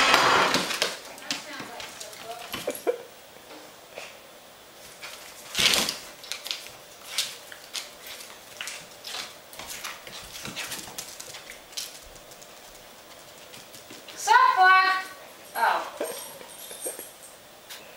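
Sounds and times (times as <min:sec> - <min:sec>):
small pets scuffling: 0:00.0 - 0:03.0, 0:04.8 - 0:17.1.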